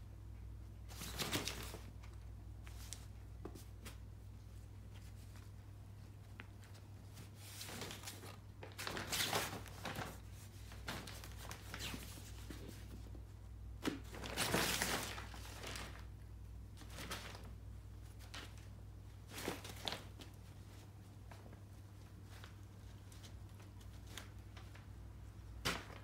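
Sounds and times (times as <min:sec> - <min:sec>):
fabric rustling and crinkling: 0:00.9 - 0:26.0.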